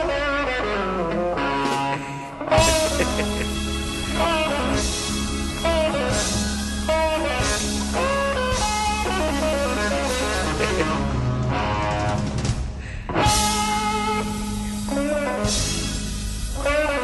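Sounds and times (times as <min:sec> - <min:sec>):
electric guitar bending notes: 0:00.0 - 0:17.0
steady low drone: 0:02.3 - 0:17.0.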